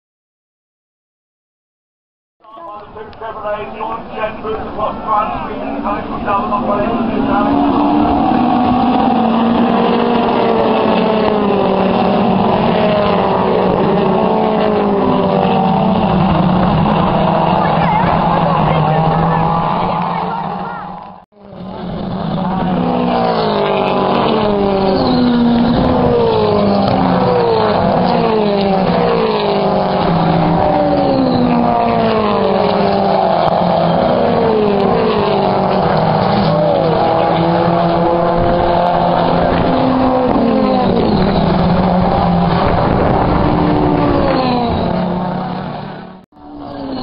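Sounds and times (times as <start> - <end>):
racing car engines: 2.4 - 47.0.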